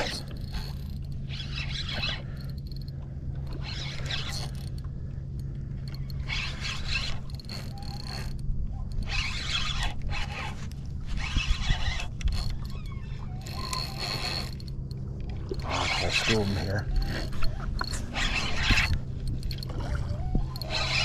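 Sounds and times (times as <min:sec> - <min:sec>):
fishing reel zipping and whirring: 0:00.0 - 0:21.0.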